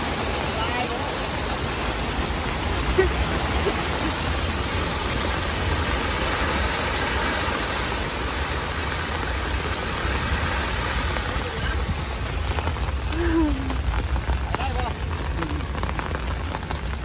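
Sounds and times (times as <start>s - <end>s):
floodwater rushing and churning: 0.0s - 17.0s
rain falling: 0.0s - 17.0s
steady low rumble: 0.0s - 17.0s.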